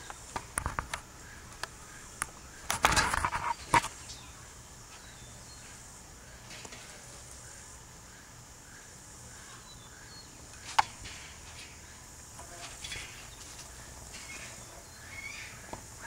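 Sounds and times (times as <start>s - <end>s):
faint high hiss: 0.0s - 16.0s.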